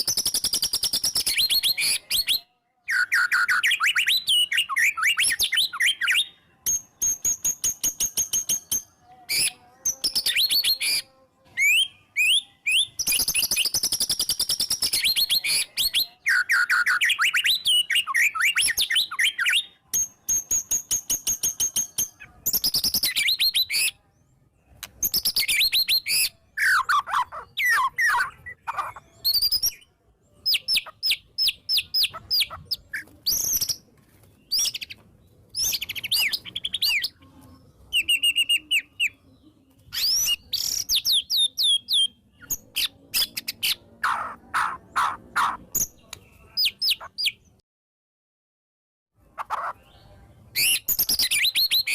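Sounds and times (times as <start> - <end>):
songbird singing whistled phrases: 0.0 - 24.0, 24.7 - 37.2, 37.8 - 47.6, 49.9 - 51.9.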